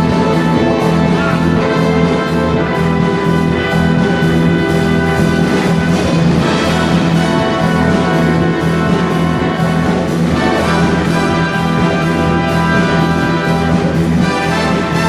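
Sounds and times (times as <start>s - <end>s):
orchestra playing upbeat music: 0.0s - 15.0s.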